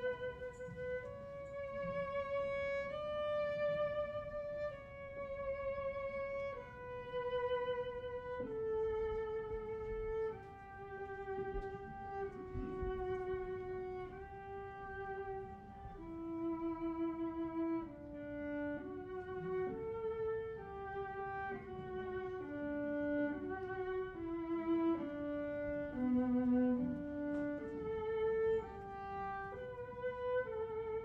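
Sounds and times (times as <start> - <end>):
solo violin slow melody: 0.0 - 31.0.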